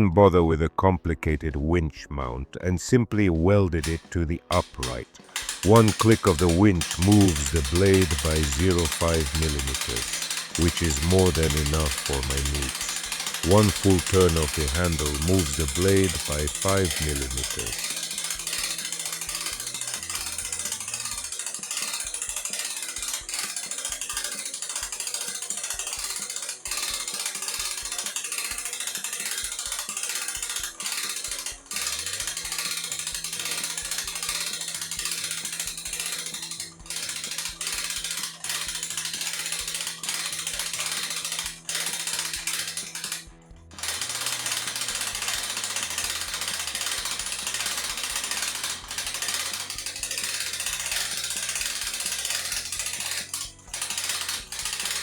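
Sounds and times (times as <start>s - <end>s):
winch ratchet clicking: 3.8s - 55.0s.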